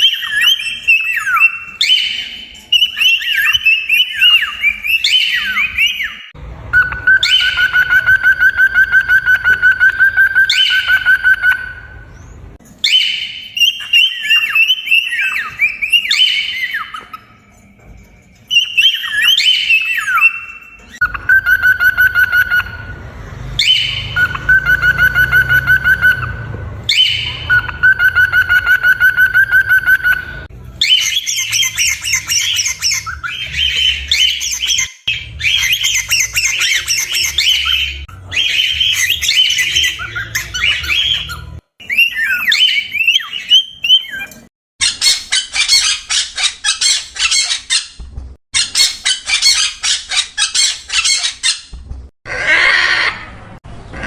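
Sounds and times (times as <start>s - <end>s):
parrots chattering and squawking: 0.0s - 54.0s.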